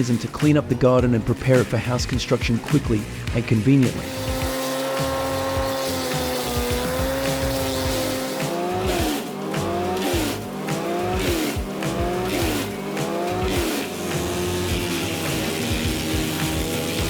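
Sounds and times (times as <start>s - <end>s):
wood chipper engine under load: 0.0s - 17.0s.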